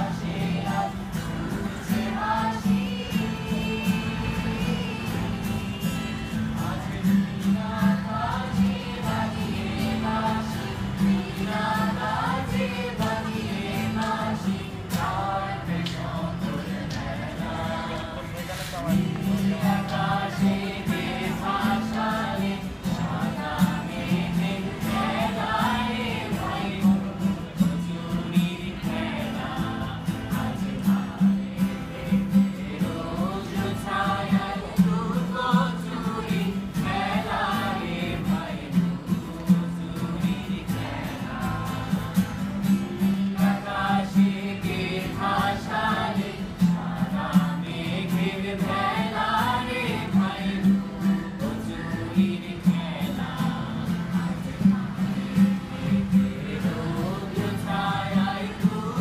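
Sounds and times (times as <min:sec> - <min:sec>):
group singing together: 0:00.0 - 0:59.0
strummed acoustic guitars: 0:00.0 - 0:59.0.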